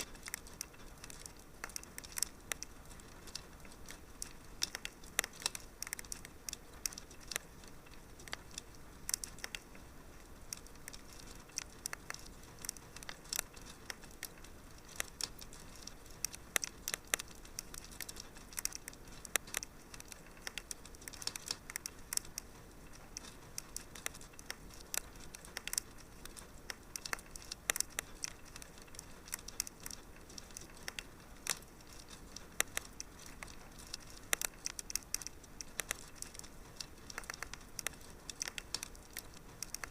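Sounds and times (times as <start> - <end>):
soft steady hiss: 0.0 - 39.9
wood fire crackling and popping: 0.0 - 39.9.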